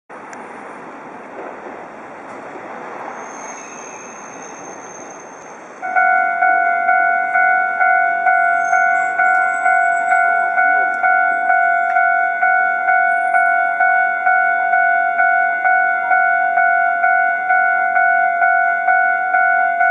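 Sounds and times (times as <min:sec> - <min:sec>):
tram and street noise: 0:00.1 - 0:19.9
level crossing warning bell: 0:03.0 - 0:19.9.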